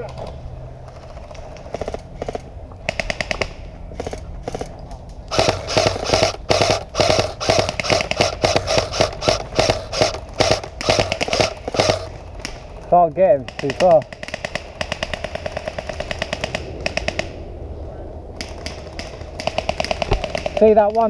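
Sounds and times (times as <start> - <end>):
airsoft rifles firing bursts: 1.0 - 4.7, 5.3 - 17.4, 18.4 - 21.0.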